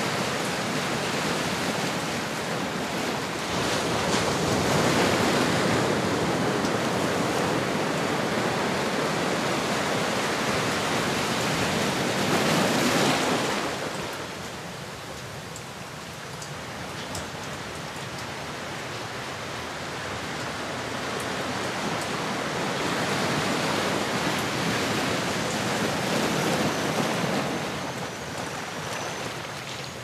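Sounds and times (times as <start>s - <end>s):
ocean waves washing in: 0.0s - 16.0s, 17.8s - 30.0s.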